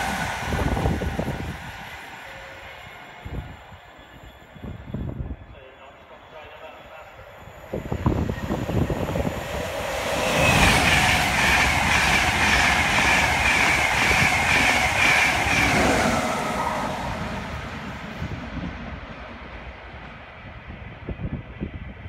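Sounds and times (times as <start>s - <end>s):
high train whine: 0.0s - 22.0s
high-speed train passing: 0.0s - 22.0s.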